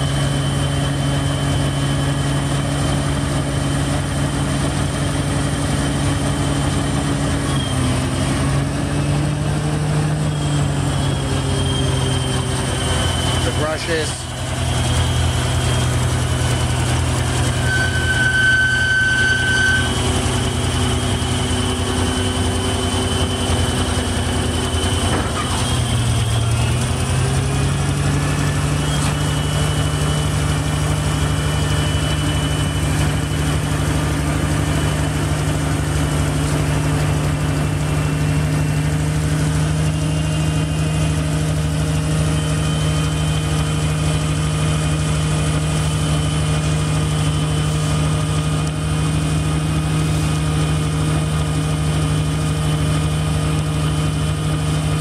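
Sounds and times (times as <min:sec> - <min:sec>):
street sweeper engine and blower hum: 0:00.0 - 0:55.0.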